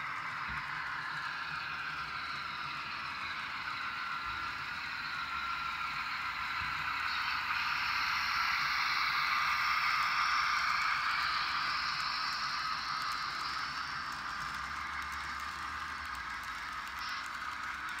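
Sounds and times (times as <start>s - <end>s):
model train rumbling past: 0.0s - 18.0s.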